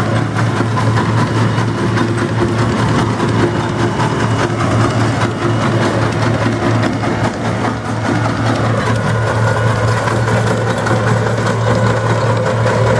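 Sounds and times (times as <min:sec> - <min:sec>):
tractor engine humming: 0:00.0 - 0:12.9.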